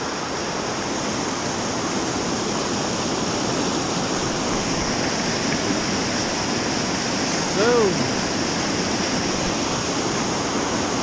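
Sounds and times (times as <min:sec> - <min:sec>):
river rushing over a weir: 0:00.0 - 0:11.0.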